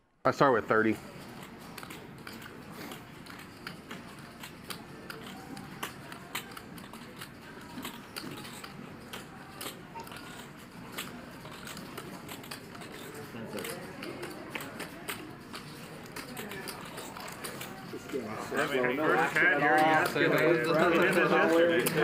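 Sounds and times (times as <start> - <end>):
room murmur: 0.3 - 22.0
poker chips clicking: 1.2 - 22.0.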